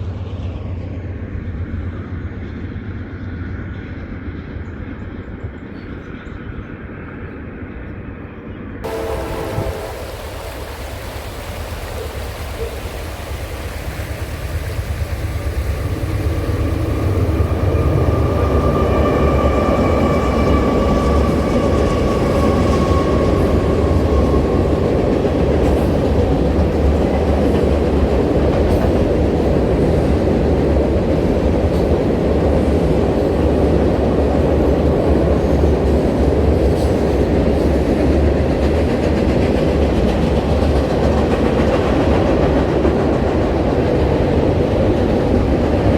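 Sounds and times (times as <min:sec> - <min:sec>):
train rumbling past: 0:00.0 - 0:45.9.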